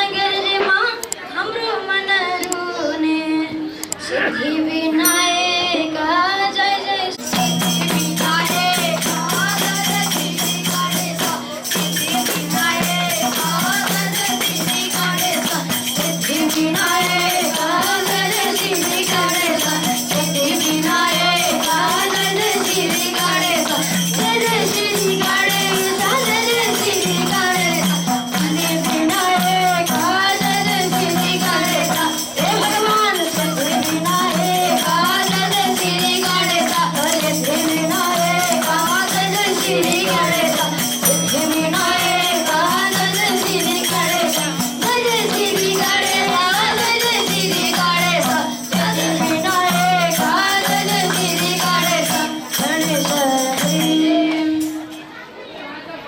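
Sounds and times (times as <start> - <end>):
devotional song sung by young people: 0.0 - 55.1
shaken jingling percussion: 5.0 - 5.8, 6.6 - 55.2.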